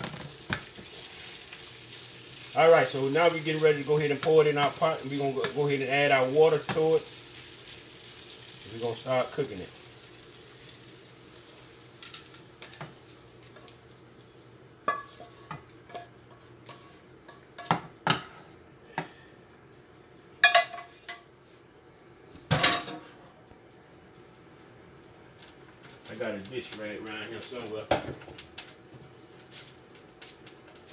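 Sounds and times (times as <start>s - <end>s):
faint sizzle of hot rice: 0.0s - 30.9s.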